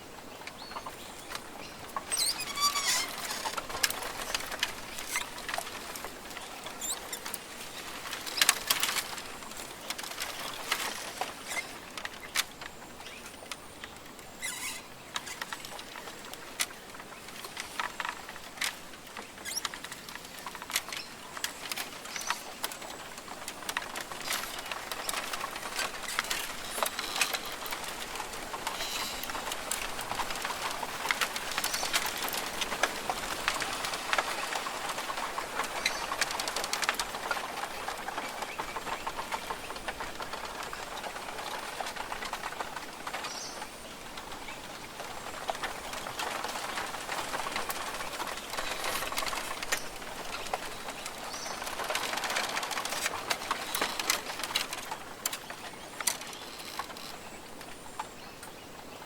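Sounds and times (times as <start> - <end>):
patter and clicks: 0.2 - 58.8.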